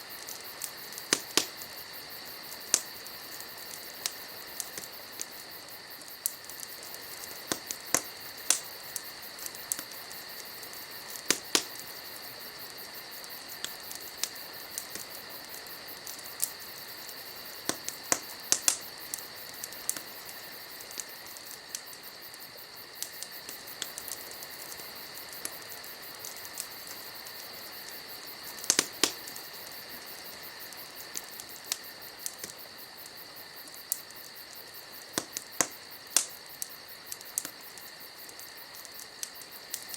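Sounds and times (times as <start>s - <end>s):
campfire crackling and popping: 0.0s - 39.9s
insects trilling: 0.0s - 39.9s.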